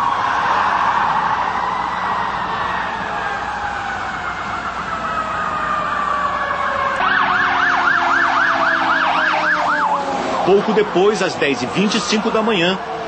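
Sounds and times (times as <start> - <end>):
wailing siren: 0.0 - 13.0
yelping siren: 0.0 - 13.0.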